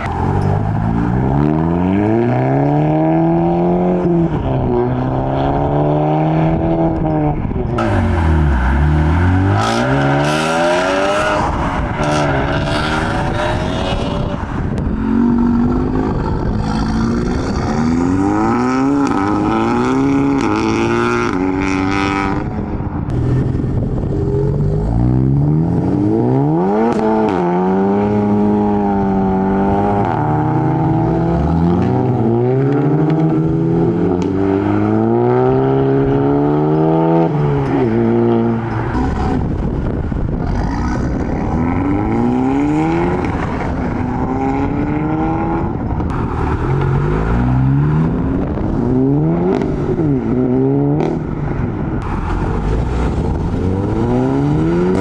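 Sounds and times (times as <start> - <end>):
car engines revving and accelerating: 0.0 - 55.0.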